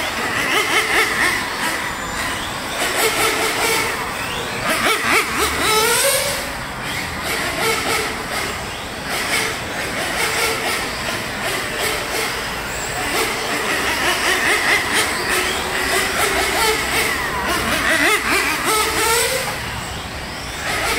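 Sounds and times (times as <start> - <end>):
rc car engines buzzing: 0.0 - 20.9.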